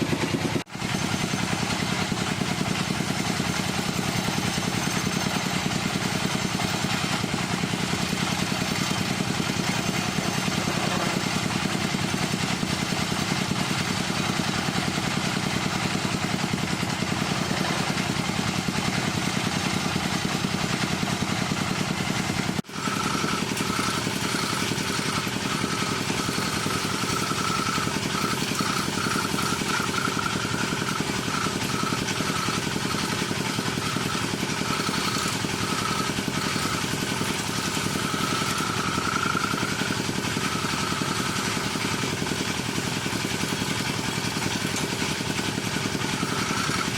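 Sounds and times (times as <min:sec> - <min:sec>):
wood lathe humming: 0:00.0 - 0:46.9.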